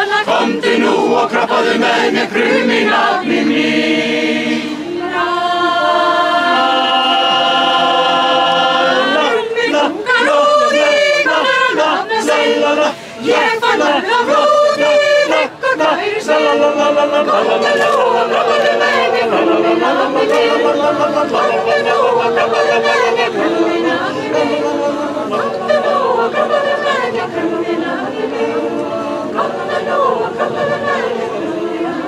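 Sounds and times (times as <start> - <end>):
choir singing a cappella: 0.0 - 32.0.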